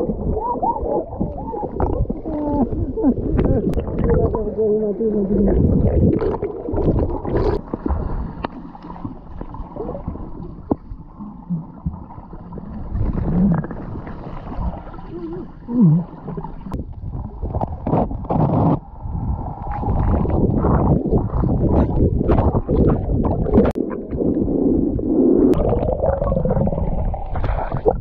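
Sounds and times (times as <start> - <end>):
underwater gurgling and sloshing: 0.0 - 28.0.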